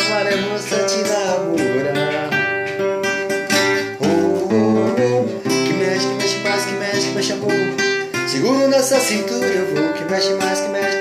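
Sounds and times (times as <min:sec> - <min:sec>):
person singing: 0:00.0 - 0:02.8, 0:03.6 - 0:11.0
acoustic guitar strumming: 0:00.0 - 0:11.0.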